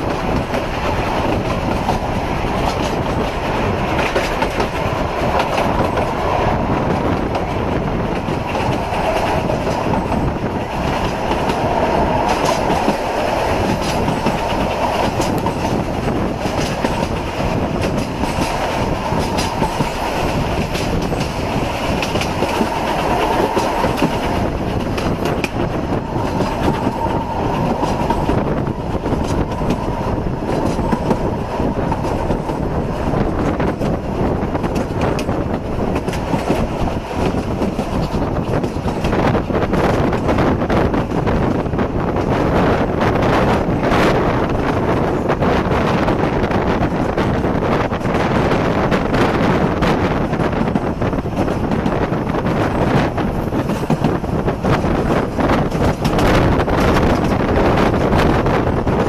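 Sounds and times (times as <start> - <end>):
wheels clicking over rail joints: 0.0 - 42.4, 46.7 - 59.0
steam train running rumble: 0.0 - 59.0.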